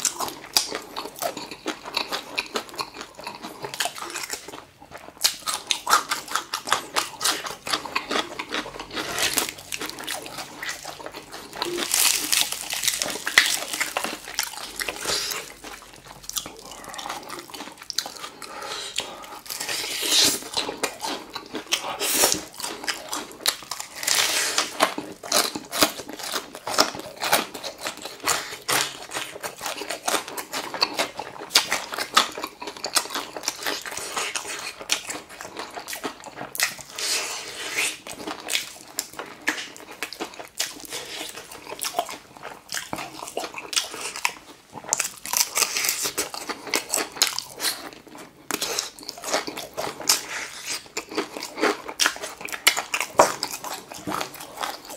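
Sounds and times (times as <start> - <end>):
crunching fried chicken: 0.0 - 54.9
wet chewing: 0.0 - 54.9.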